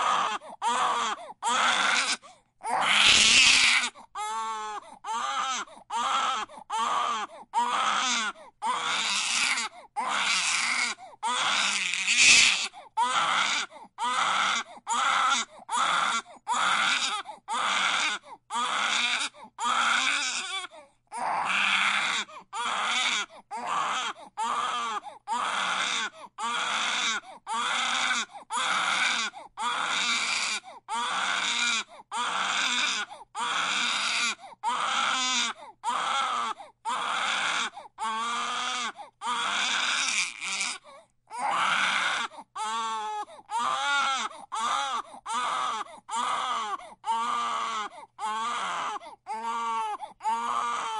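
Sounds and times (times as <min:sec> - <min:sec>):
baby crying: 0:00.0 - 0:50.9.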